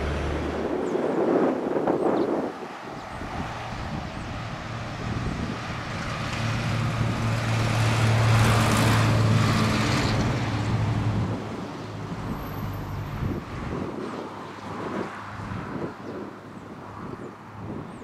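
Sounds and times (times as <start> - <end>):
jet airliner engines: 0.0 - 18.0.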